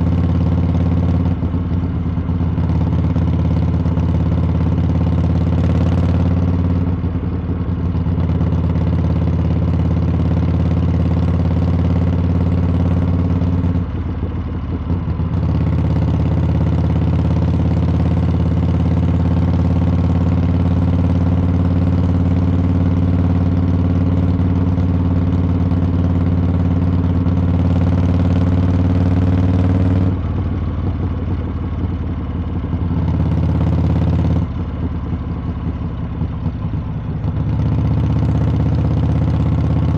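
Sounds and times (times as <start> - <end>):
motorcycle exhaust running: 0.0 - 39.9.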